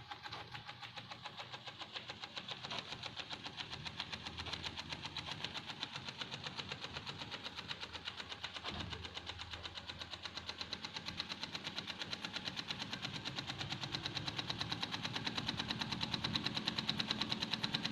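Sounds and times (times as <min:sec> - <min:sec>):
steam engine exhaust chuffing: 0:00.0 - 0:17.9.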